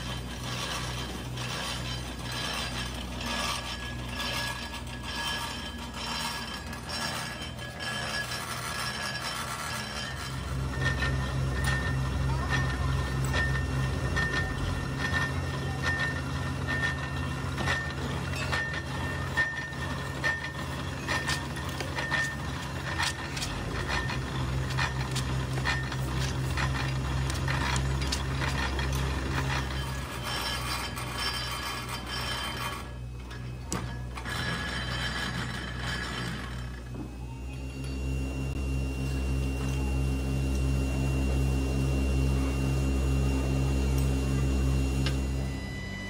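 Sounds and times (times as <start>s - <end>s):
sand mixer humming: 0.0s - 46.0s.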